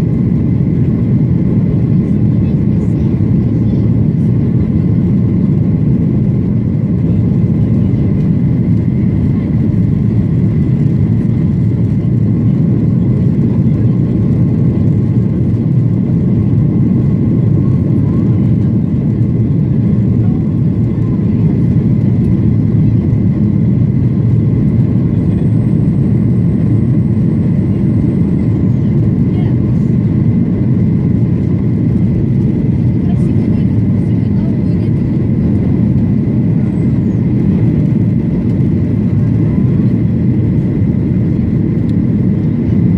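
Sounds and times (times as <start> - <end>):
jet engine cabin rush: 0.1 - 42.9.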